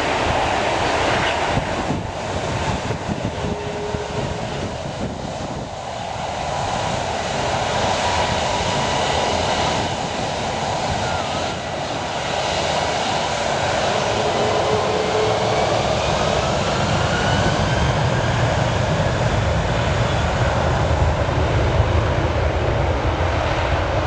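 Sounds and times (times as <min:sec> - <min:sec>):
jet engines at low thrust: 0:00.0 - 0:24.0.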